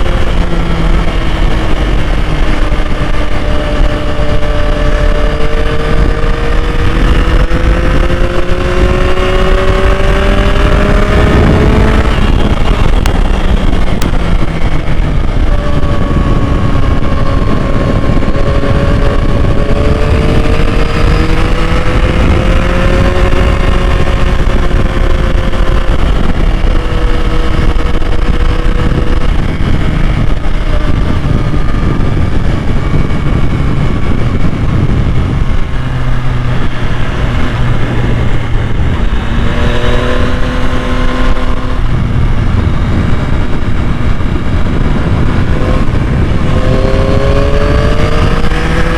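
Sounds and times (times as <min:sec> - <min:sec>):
motorcycle engine running: 0:00.0 - 0:48.9
wind and road rumble: 0:00.0 - 0:48.9.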